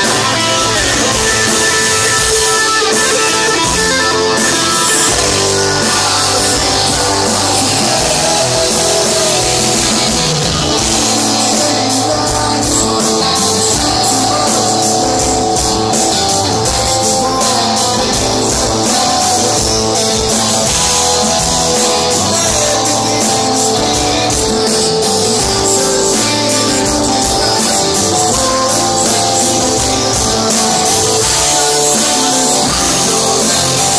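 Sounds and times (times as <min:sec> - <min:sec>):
drum kit: 0:00.0 - 0:33.9
strummed guitar: 0:00.0 - 0:33.9.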